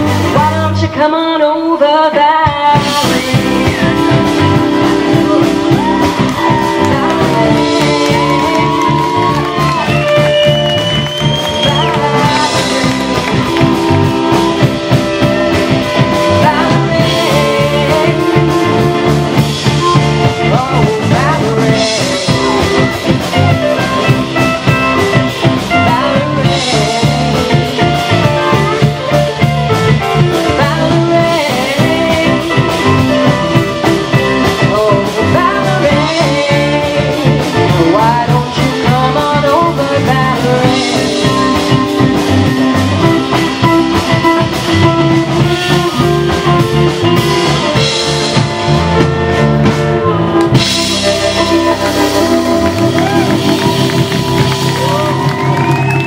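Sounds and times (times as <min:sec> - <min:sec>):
woman singing: 0:00.0 - 0:24.2, 0:25.2 - 0:48.1
blues-rock band playing: 0:00.0 - 0:56.0.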